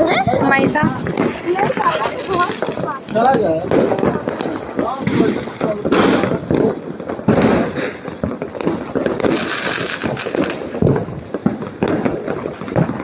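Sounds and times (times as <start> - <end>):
firecrackers cracking and popping: 0.0 - 13.0.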